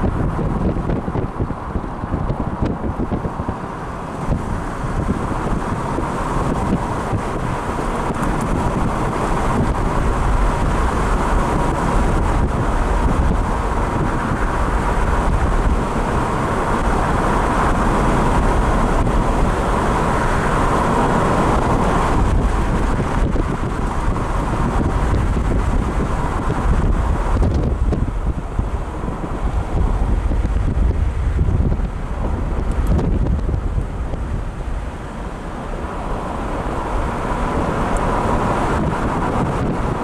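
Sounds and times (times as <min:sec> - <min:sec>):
car driving on road: 0:00.0 - 0:40.0
wind buffeting microphone: 0:00.0 - 0:40.0.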